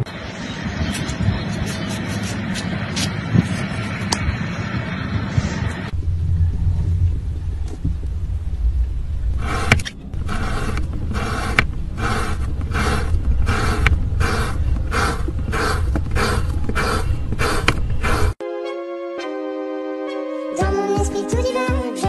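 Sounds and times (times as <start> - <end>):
low rumble: 0.0 - 18.4.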